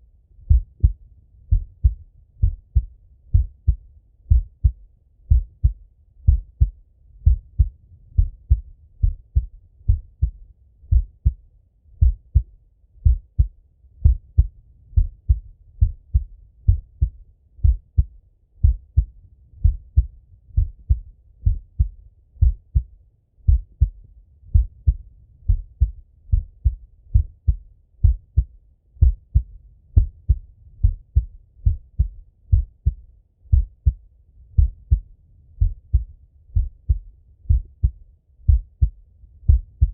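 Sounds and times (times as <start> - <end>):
heartbeat through stethoscope: 0.4 - 39.9.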